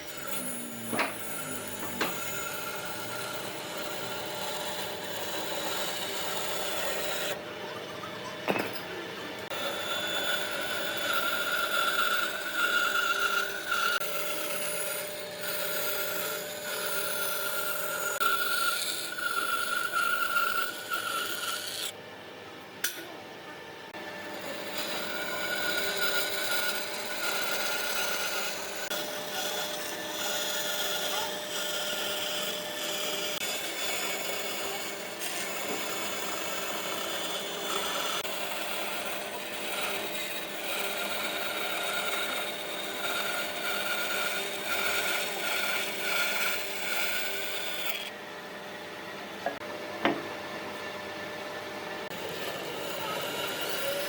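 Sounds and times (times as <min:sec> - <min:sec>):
power tool cutting wood: 0:00.0 - 0:07.4, 0:08.5 - 0:22.0, 0:23.9 - 0:48.2, 0:52.0 - 0:54.0.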